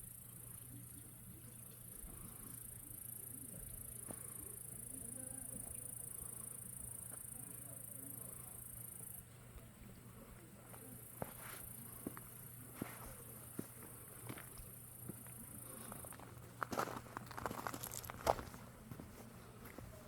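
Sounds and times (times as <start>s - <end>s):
insects chirring: 0.0s - 9.2s, 10.6s - 18.6s.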